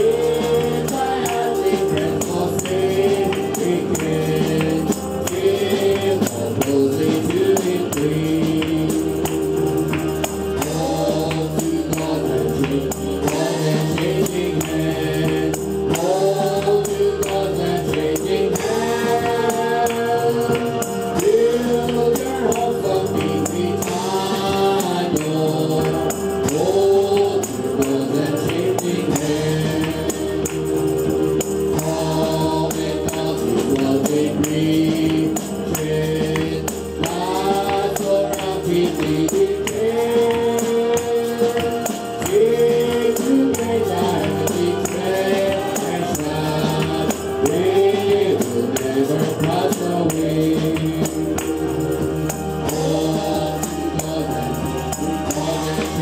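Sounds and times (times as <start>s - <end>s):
man singing into microphone: 0.0s - 56.0s
shaken percussion rhythm: 0.0s - 56.0s
sustained instrumental chords: 0.0s - 56.0s
voices singing: 0.0s - 56.0s.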